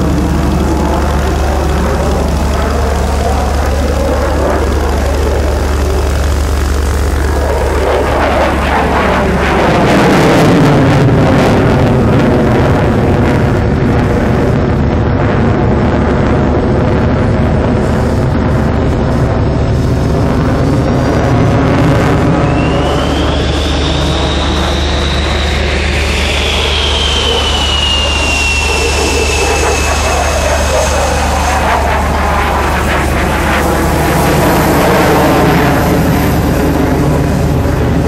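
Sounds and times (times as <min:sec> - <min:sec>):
jet engine afterburner rumble: 0:00.0 - 0:38.0.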